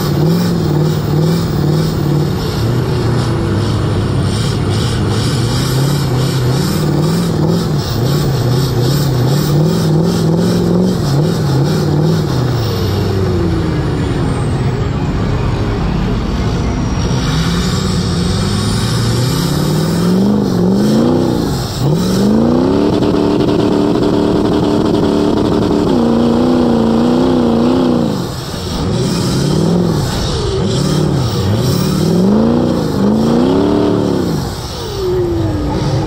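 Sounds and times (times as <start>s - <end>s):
truck engine revving in mud: 0.0s - 36.0s.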